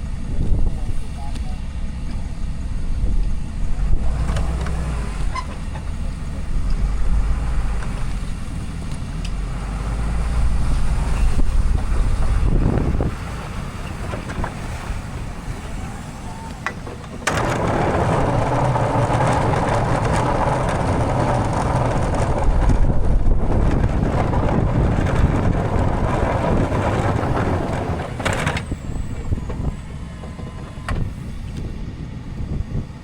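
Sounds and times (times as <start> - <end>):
diesel engine rumbling: 0.0 - 33.0.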